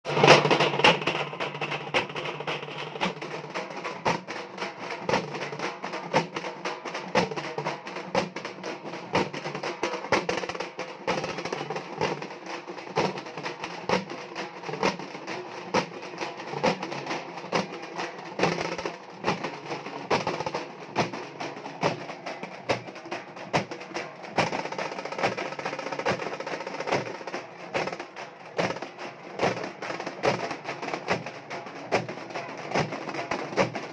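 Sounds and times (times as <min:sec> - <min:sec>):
frame drums beaten with sticks: 0:00.1 - 0:33.9.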